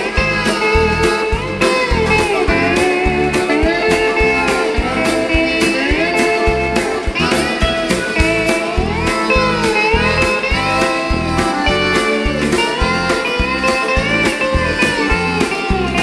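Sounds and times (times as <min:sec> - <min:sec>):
bass guitar: 0:00.0 - 0:16.0
button accordion: 0:00.0 - 0:16.0
drum kit beat: 0:00.0 - 0:16.0
electric guitar sliding notes: 0:00.0 - 0:16.0.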